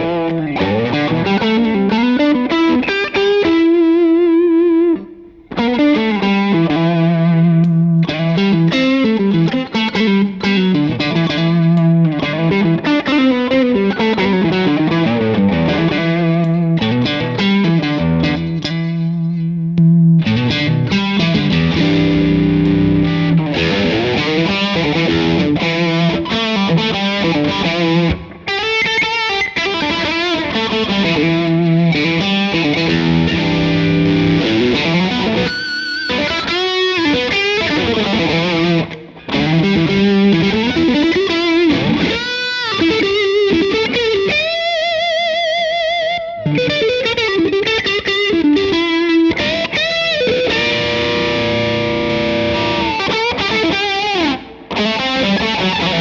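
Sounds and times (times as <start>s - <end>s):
distorted electric guitar riff: 0.0s - 56.0s.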